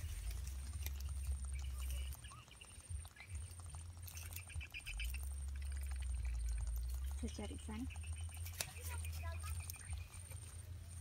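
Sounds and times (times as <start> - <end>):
low rumble: 0.0 - 11.0
small birds trilling: 0.0 - 11.0
twine rustling and clicking: 0.0 - 11.0.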